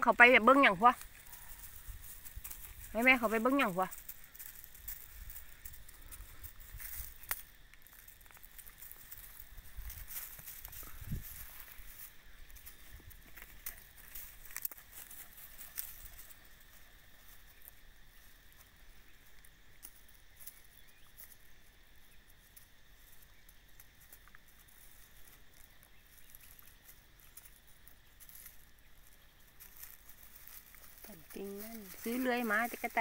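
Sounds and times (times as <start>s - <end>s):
faint outdoor background: 0.0s - 33.0s
leaves crackling: 0.0s - 33.0s
paws rustling dry leaves: 1.0s - 21.4s, 22.0s - 33.0s.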